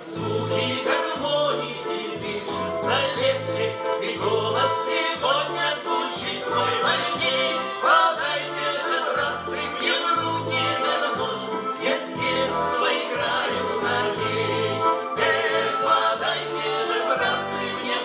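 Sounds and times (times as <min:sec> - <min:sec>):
button accordion folk tune: 0:00.0 - 0:18.0
choir singing: 0:00.0 - 0:18.0.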